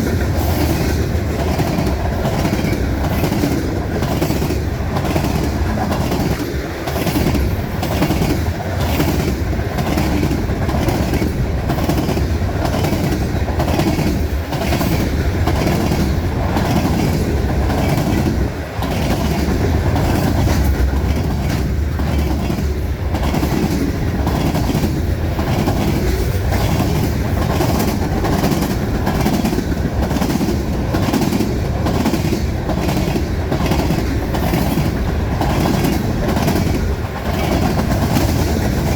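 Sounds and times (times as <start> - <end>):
freight train rumble: 0.0 - 38.9
train wheels clicking over rail joints: 0.0 - 38.9.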